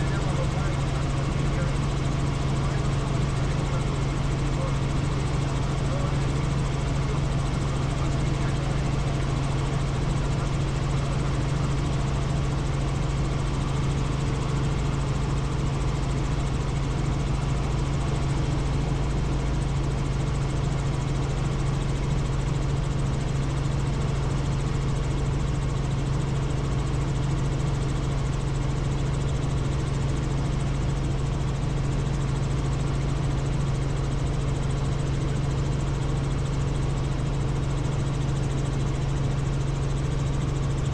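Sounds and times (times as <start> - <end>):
helicopter engine and rotors droning: 0.0 - 40.9.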